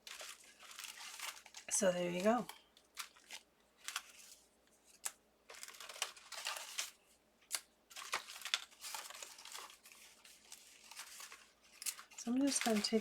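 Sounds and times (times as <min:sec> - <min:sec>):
paper rustling and scraping: 0:00.0 - 0:07.2, 0:07.9 - 0:13.0.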